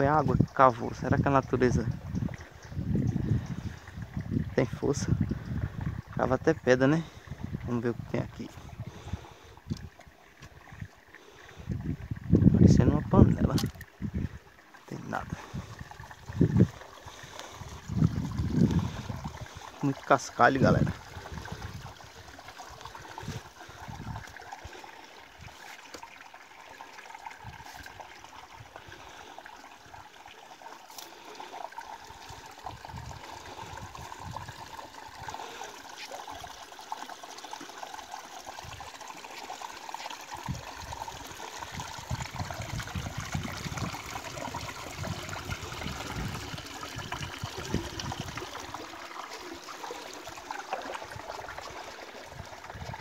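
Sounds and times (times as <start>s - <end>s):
river water trickling over rocks: 0.0s - 53.0s.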